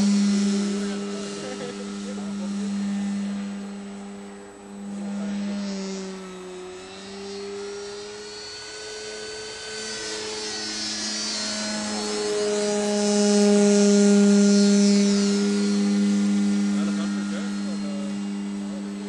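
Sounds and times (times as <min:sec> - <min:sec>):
model airplane motor droning: 0:00.0 - 0:19.0.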